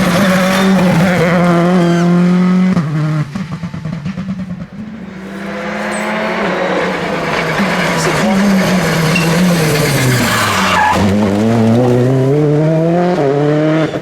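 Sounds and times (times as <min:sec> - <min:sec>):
engine popping on the overrun: 0:00.0 - 0:14.0
rally car engine revving: 0:00.0 - 0:14.0.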